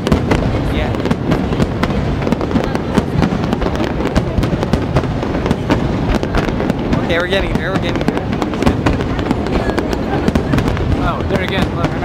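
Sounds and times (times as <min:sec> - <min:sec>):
heavy low rumble: 0:00.0 - 0:12.0.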